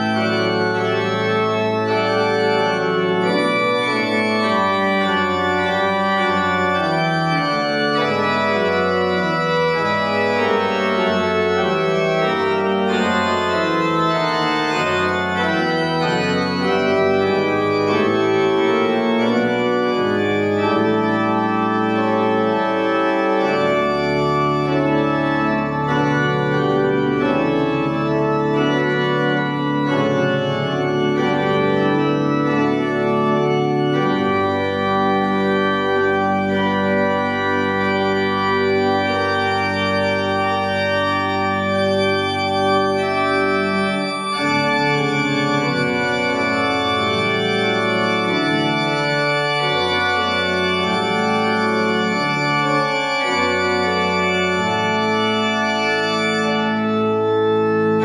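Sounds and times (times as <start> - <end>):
church organ playing hymn: 0.0 - 58.0.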